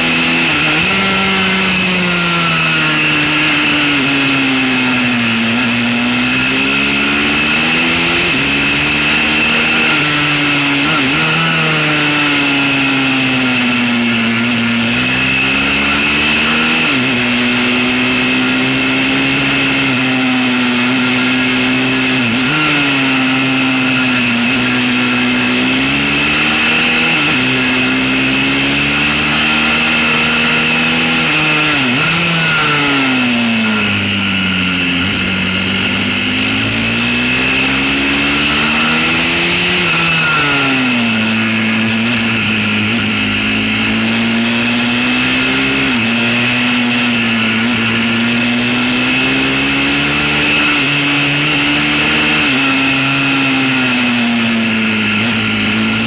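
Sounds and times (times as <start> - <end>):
small motorbike engine revving: 0.0 - 56.0
steady high whine: 0.0 - 56.0.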